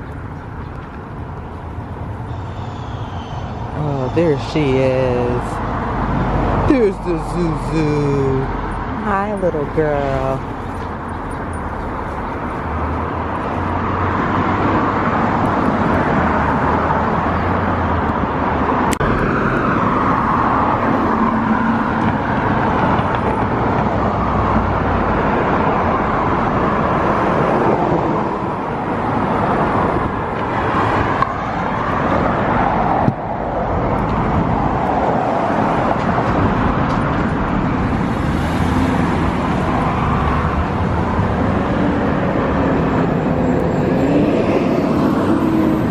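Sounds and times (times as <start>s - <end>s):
cars passing: 0.0s - 45.9s.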